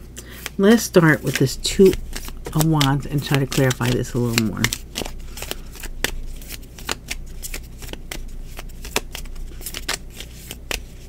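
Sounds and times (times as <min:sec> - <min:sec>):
cards being shuffled: 0:00.2 - 0:11.0.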